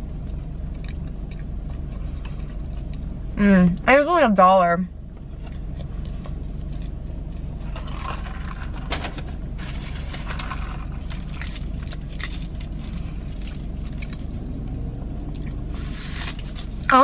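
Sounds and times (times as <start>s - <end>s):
low hum inside car: 0.0s - 17.0s.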